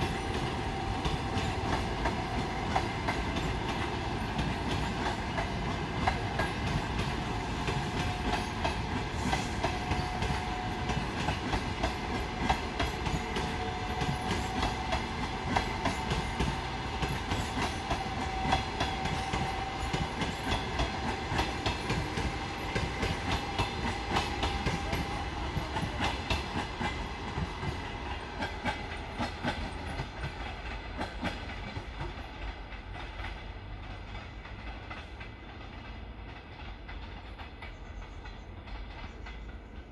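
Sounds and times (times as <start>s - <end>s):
train rumble: 0.0s - 39.9s
train wheels clacking over rail joints: 0.0s - 39.9s.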